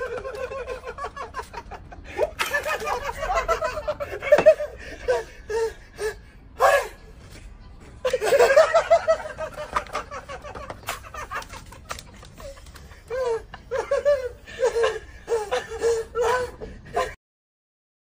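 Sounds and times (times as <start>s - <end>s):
people laughing: 0.0s - 6.2s, 8.0s - 17.2s.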